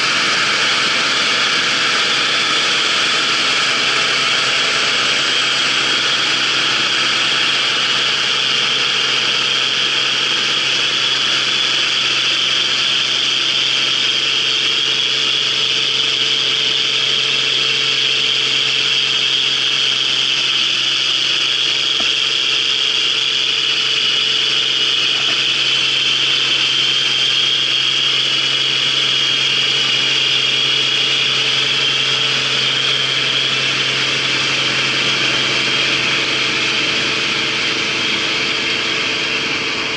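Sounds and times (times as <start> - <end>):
combine harvester hum: 0.0 - 39.9
high steady whine: 0.0 - 39.9.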